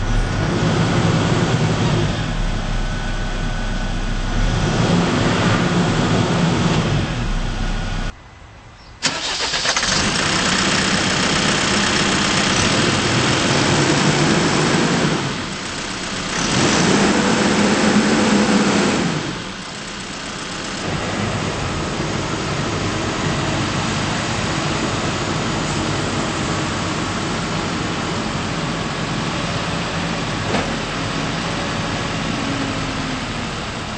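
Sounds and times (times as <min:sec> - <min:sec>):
backhoe diesel engine revving: 0:00.0 - 0:08.1, 0:09.1 - 0:33.9.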